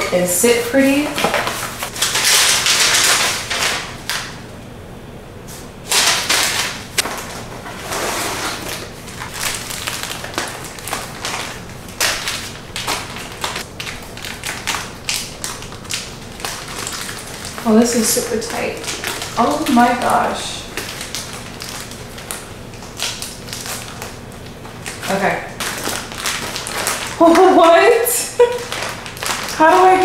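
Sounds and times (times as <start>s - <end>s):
packaging rustling and crinkling: 1.1s - 4.3s, 5.9s - 30.0s.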